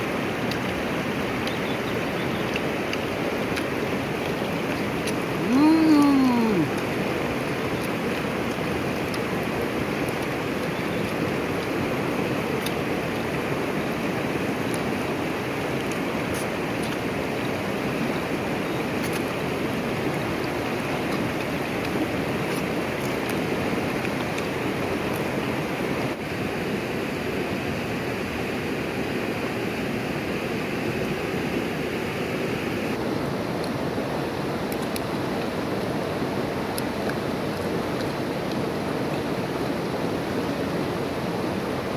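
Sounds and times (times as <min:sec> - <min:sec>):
river rushing over rocks: 0:00.0 - 0:41.9.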